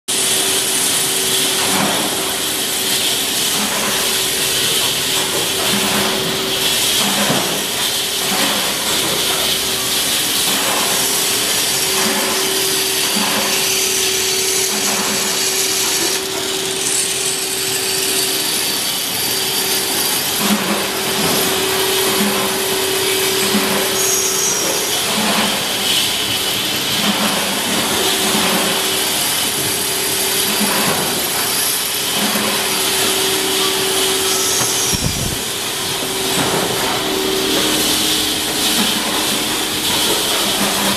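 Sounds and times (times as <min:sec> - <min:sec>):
factory machinery running: 0:00.1 - 0:40.9.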